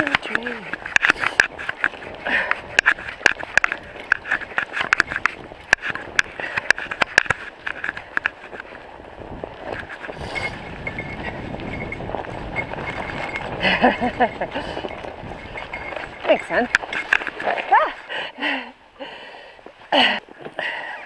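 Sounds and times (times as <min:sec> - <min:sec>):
bike frame rattling: 0:00.0 - 0:18.3
bike tires rolling on snow: 0:00.0 - 0:21.0.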